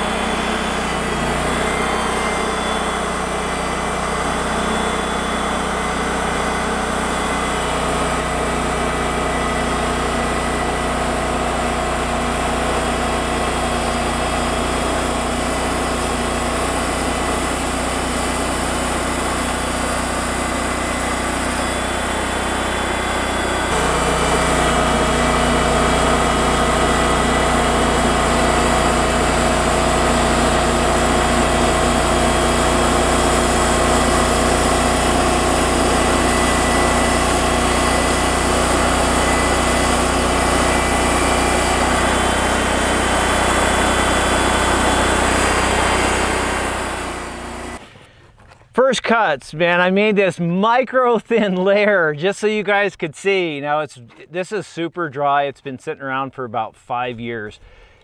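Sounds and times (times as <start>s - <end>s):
band sawmill cutting log: 0.0s - 48.2s.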